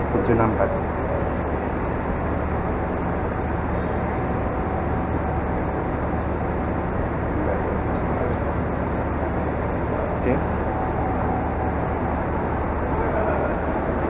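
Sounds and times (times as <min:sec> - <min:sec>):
train diesel engines humming: 0:00.0 - 0:14.0.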